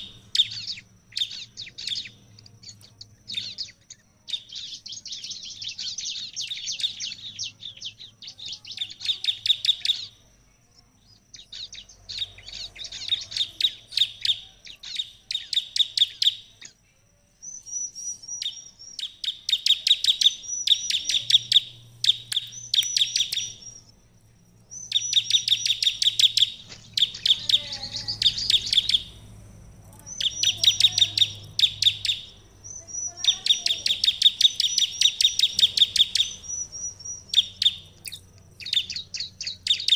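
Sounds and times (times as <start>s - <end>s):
bird singing sharp trills: 0.0s - 39.9s.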